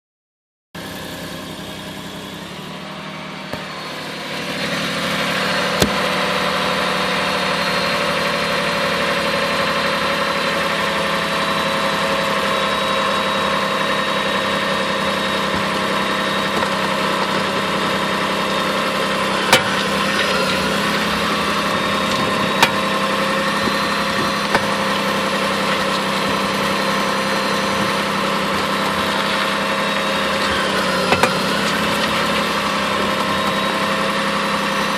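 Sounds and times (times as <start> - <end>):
car engine hum: 0.8 - 34.9.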